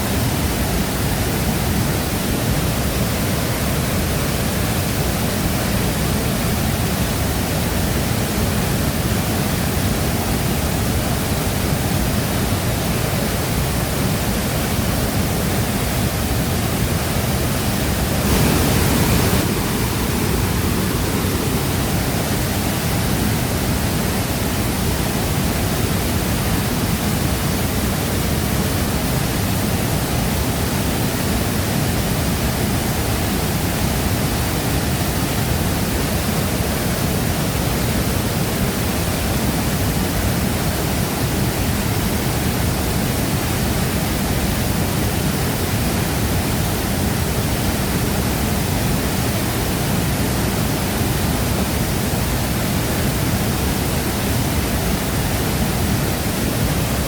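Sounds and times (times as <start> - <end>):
waterfall rushing into pool: 0.0 - 57.0.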